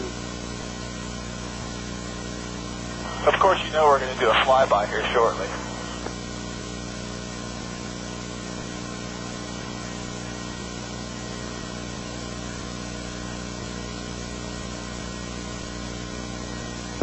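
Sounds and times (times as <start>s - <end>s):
helicopter engine and rotor drone: 0.0s - 7.0s, 7.6s - 17.0s.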